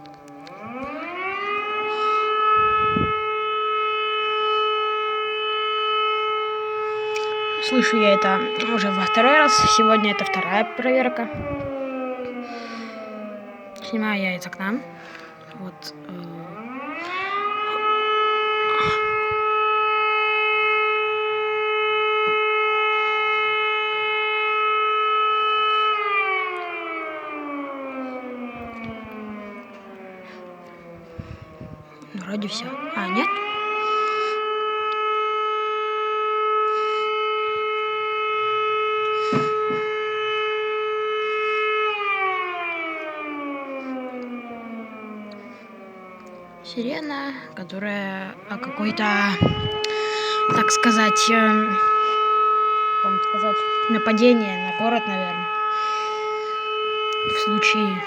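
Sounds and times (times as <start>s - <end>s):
siren wailing: 0.0s - 58.0s.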